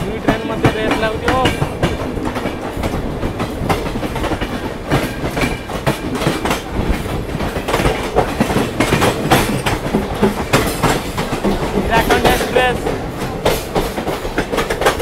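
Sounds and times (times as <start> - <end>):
train wheels clattering over rail joints: 0.0 - 15.0.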